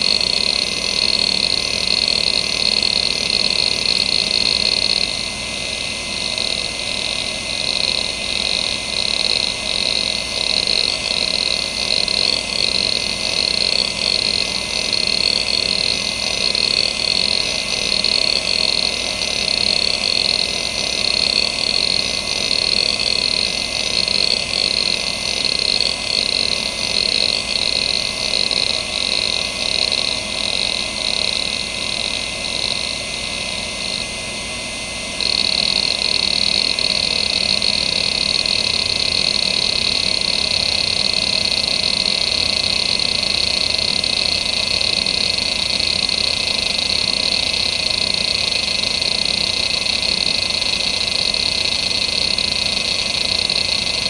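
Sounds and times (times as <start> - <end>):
hard drive heads seeking chatter: 0.0 - 34.5, 35.1 - 54.0
hard drive spindle whine: 0.0 - 54.0.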